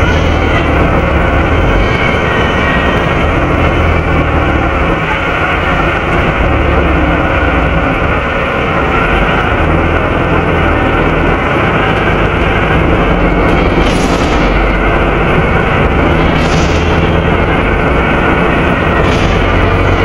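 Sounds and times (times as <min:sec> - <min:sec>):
diesel engine low hum: 0:00.0 - 0:20.0
radiator fan rushing drone: 0:00.0 - 0:20.0.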